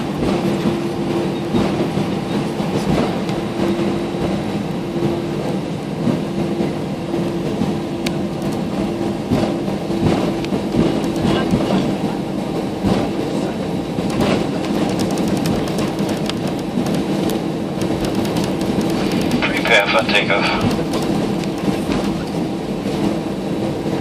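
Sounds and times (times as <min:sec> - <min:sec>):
jet engines humming: 0:00.0 - 0:24.0
knocks and rattles of rolling aircraft: 0:00.0 - 0:24.0.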